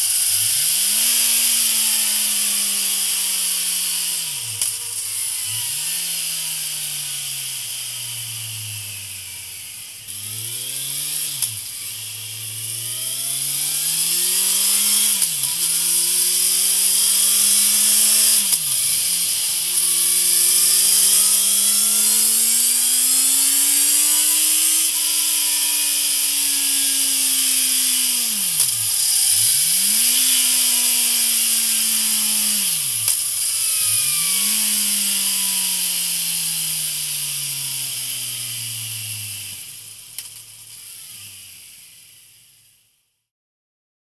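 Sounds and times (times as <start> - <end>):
motorcycle engine revving: 0.0 - 42.6.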